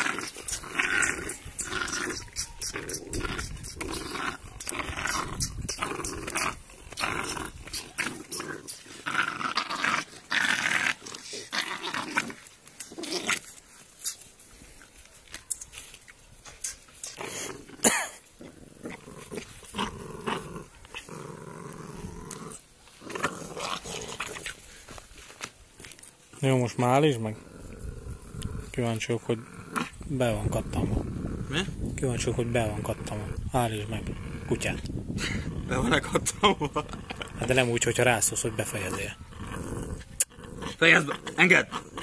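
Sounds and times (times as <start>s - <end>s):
puppy growling: 0.0s - 13.5s, 17.1s - 24.7s, 27.3s - 42.0s.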